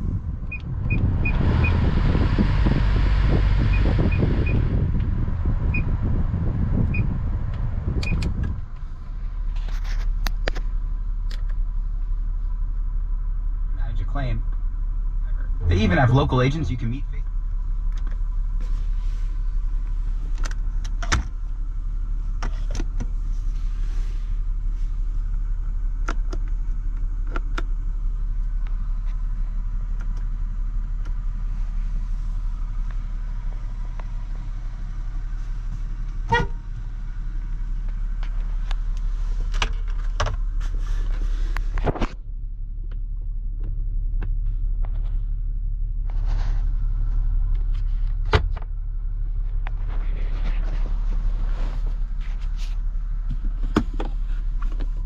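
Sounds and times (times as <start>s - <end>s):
low rumble of engine and road: 0.0s - 55.0s.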